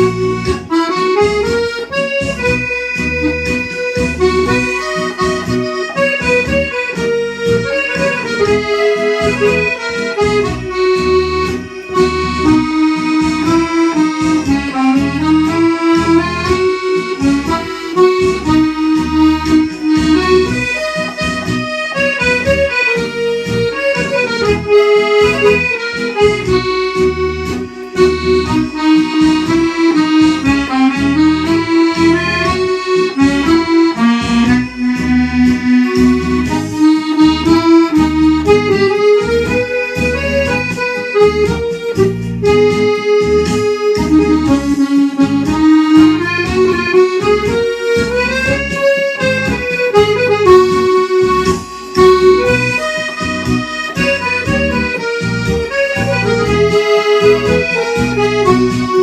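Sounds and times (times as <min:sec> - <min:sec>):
accordion playing a tune: 0:00.0 - 0:59.0.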